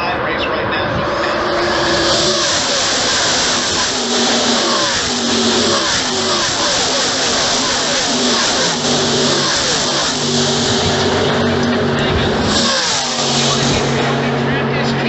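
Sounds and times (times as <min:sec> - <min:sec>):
race trucks passing at speed: 0:00.0 - 0:15.0.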